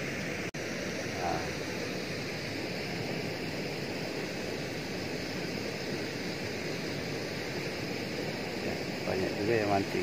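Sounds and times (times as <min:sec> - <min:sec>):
water rushing at a dam: 0:01.1 - 0:10.0.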